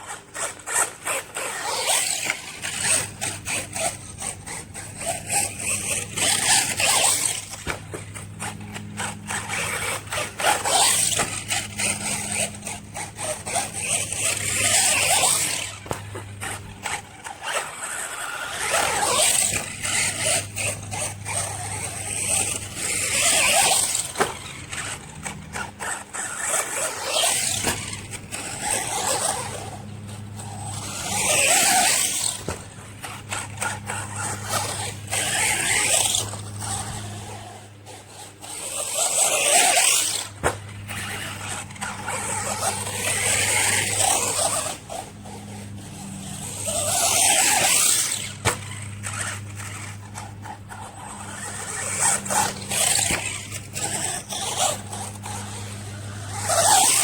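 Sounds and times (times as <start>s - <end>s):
rc truck motor whine: 0.0s - 57.0s.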